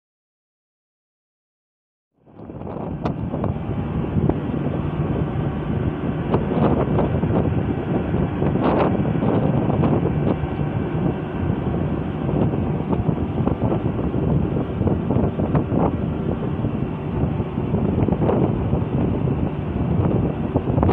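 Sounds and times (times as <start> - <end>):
wind buffeting microphone: 2.2 - 20.9.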